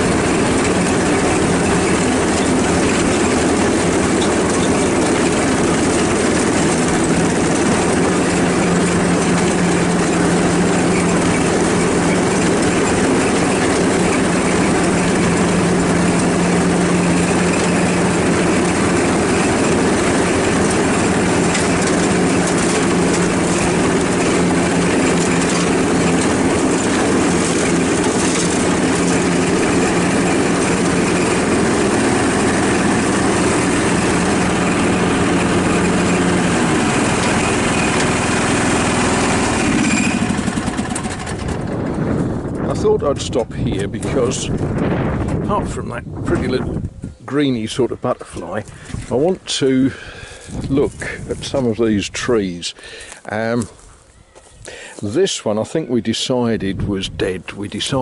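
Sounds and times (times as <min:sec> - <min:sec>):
lawnmower engine droning: 0:00.0 - 0:58.0.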